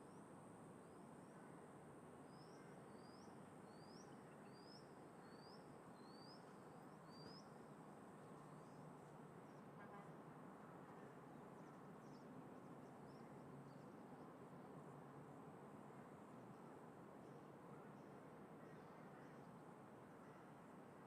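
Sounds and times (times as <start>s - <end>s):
faint background hiss: 0.0s - 21.0s.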